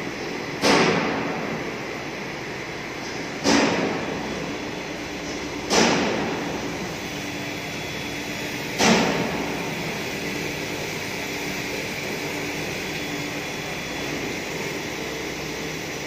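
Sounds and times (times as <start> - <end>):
machining centre humming: 0.0 - 16.0.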